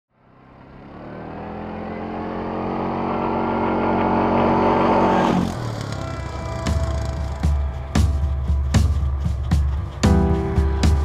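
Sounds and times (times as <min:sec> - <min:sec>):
quad bike engine running: 0:00.2 - 0:11.0.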